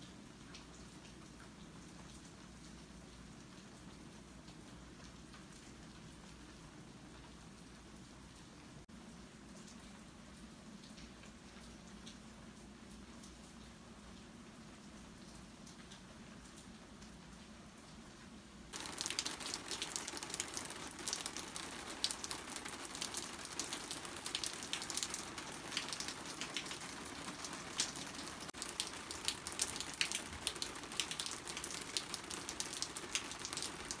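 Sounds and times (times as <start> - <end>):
raindrops striking close by: 0.0 - 34.0
steady rain: 0.0 - 34.0.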